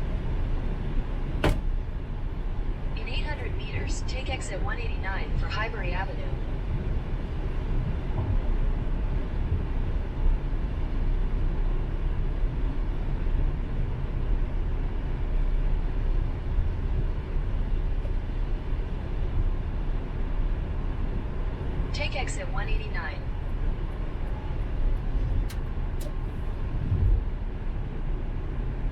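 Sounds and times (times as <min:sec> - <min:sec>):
car road and engine noise: 0:00.0 - 0:28.9.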